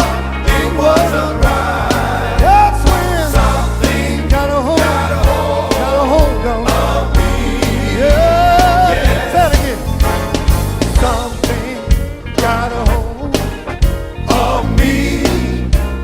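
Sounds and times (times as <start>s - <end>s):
gospel band playing: 0.0s - 16.0s.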